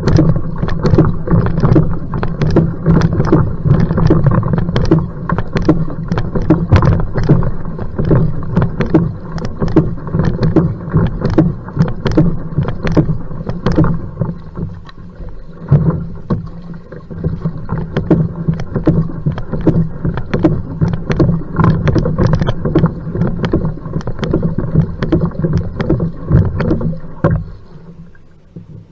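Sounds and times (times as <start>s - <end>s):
low rumble of water and hull: 0.0s - 28.9s
paddle strokes splashing water: 0.0s - 28.9s.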